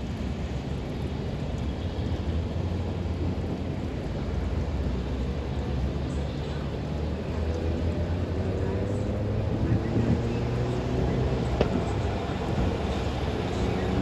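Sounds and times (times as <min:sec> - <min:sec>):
steady rain: 0:00.0 - 0:14.0
wind: 0:00.0 - 0:14.0.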